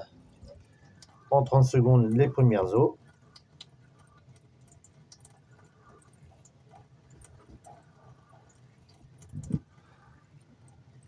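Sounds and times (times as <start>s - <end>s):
water trickling into steel sink: 0.0s - 11.0s
small ticks: 0.4s - 1.3s, 3.0s - 11.0s.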